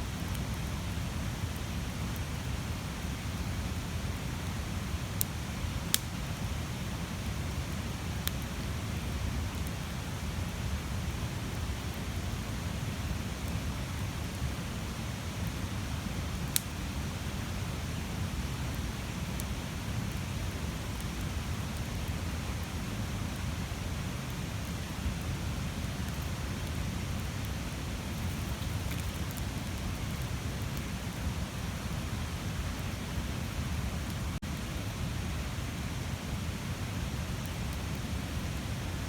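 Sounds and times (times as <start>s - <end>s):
bonfire crackling: 0.0s - 39.0s.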